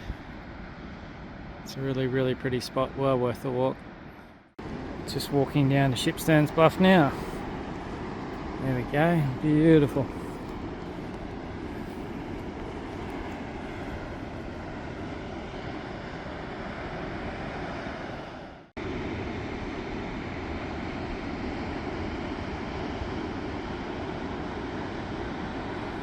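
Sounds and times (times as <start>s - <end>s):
wind buffeting microphone: 3.8s - 26.0s.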